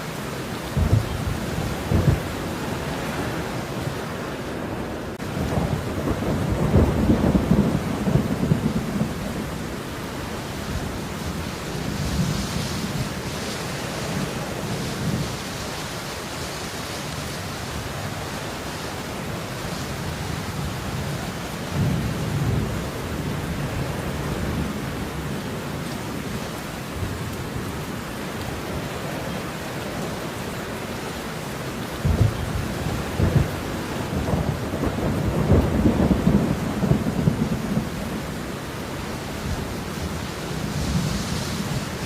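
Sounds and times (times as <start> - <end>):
steady falling rain: 0.0 - 42.0.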